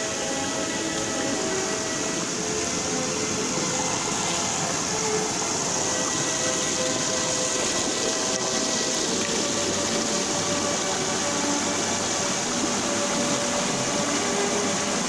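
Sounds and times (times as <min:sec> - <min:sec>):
stream water rushing over rocks: 0:00.0 - 0:15.0.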